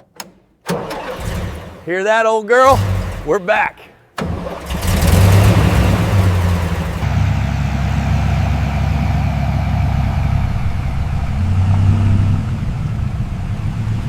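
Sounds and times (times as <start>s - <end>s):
truck engine idling: 0.7s - 14.0s.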